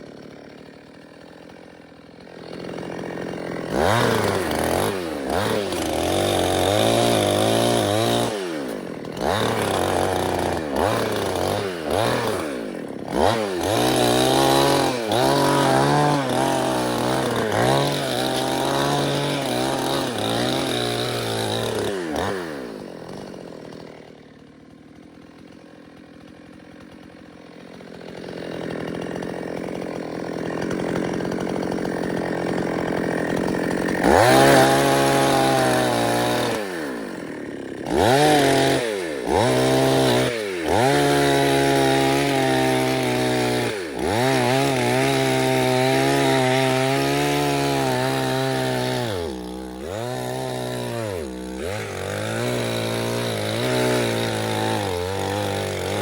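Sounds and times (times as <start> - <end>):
chainsaw revving cutting wood: 0.0 - 56.0.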